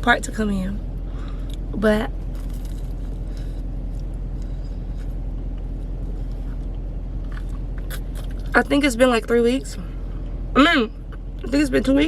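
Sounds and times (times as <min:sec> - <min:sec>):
car engine cabin rumble: 0:00.0 - 0:12.0.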